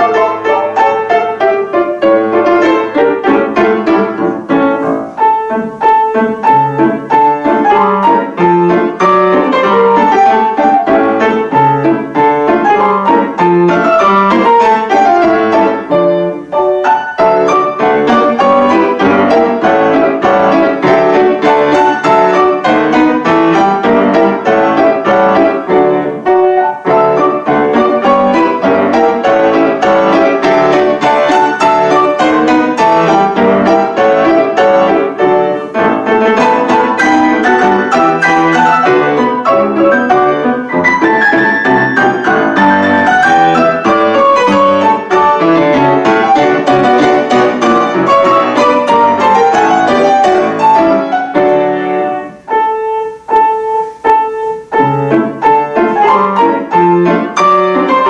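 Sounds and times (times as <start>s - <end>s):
piano duet playing quick notes: 0.0s - 58.0s.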